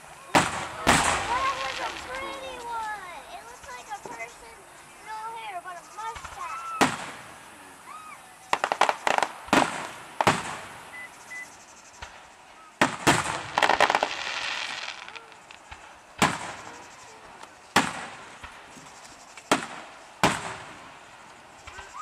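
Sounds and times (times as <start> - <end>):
fireworks bursting with sharp bangs: 0.0 - 22.0
fireworks crackling: 0.0 - 22.0.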